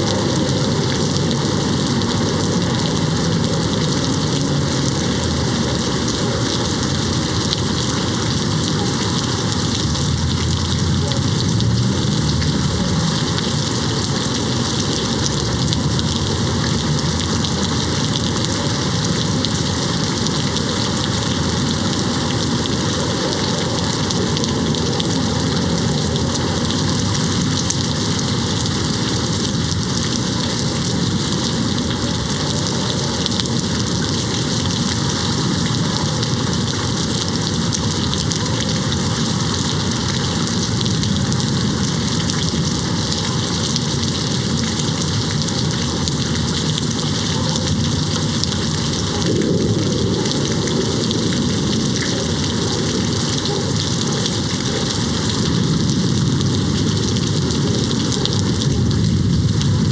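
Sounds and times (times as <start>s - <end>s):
rain on a window: 0.0s - 59.9s.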